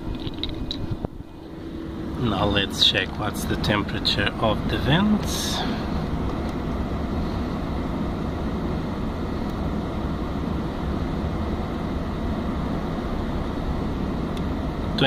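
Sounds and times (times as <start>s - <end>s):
car blower fan rushing: 0.0s - 15.0s.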